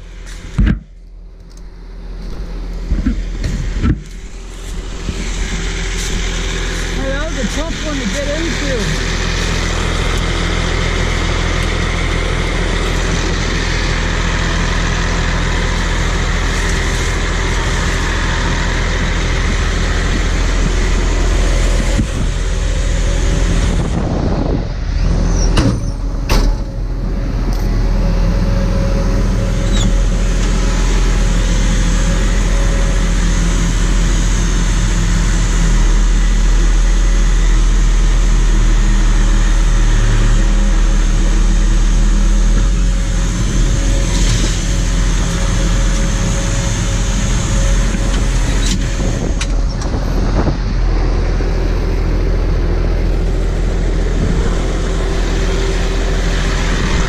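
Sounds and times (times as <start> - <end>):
machine engine running: 1.8 - 57.0.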